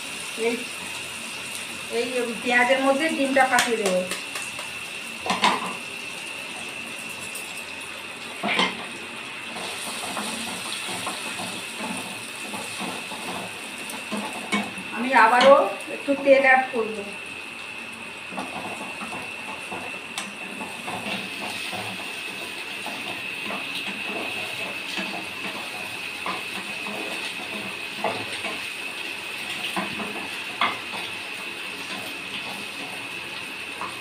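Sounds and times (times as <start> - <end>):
food frying in oil: 0.0 - 34.0.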